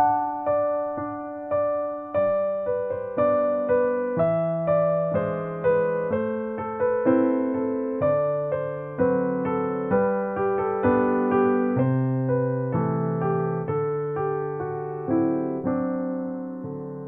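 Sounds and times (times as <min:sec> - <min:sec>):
slow electric piano tune: 0:00.0 - 0:17.0.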